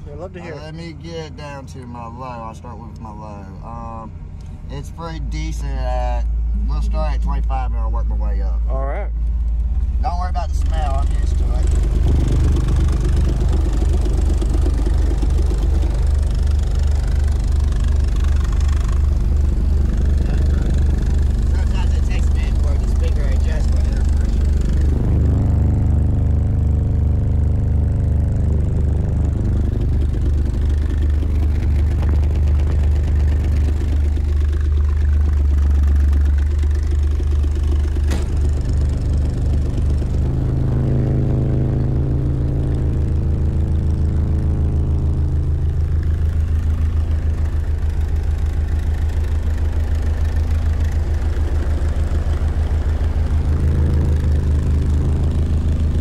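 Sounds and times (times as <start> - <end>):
low bass test tones: 0.0 - 56.0.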